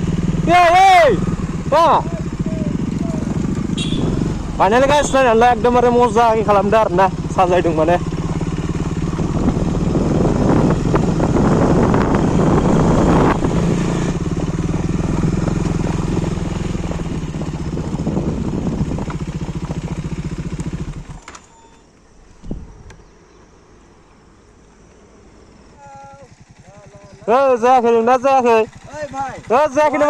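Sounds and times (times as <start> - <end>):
motorcycle engine ticking over: 0.0 - 13.5, 14.1 - 21.4, 24.2 - 30.0.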